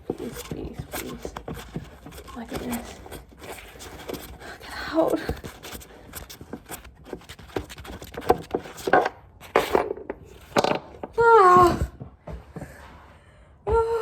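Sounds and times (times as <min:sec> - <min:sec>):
metal scraping against wood: 0:00.0 - 0:12.0.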